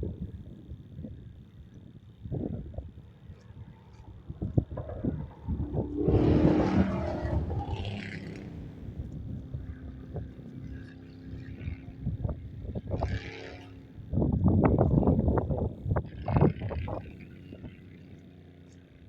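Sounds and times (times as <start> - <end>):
wind buffeting microphone: 0.0 - 13.3, 13.9 - 17.9
vehicle humming over bridge: 2.9 - 19.0.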